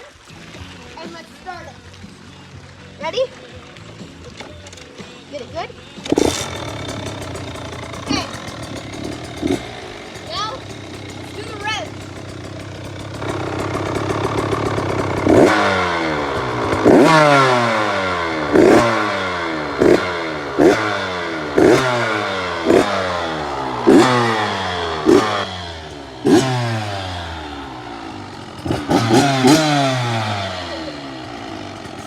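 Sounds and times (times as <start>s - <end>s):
dirt bike engine revving: 5.8s - 32.0s.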